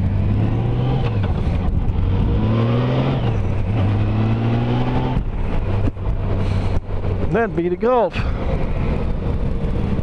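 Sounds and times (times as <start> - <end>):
motorcycle engine: 0.0 - 10.0
wind noise: 0.0 - 10.0.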